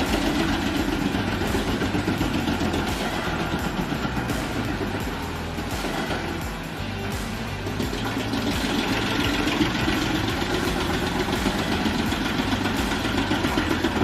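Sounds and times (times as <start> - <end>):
heavy machine engine running: 0.0 - 14.0.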